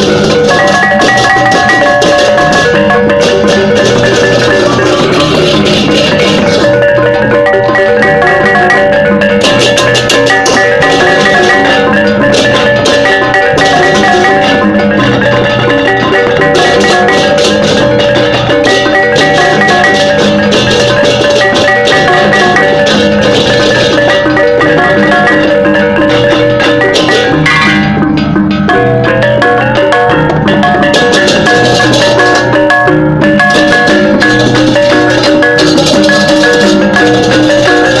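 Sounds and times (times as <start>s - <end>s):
drums and percussion: 0.0s - 38.0s
metal-keyed mallet instruments: 0.0s - 38.0s.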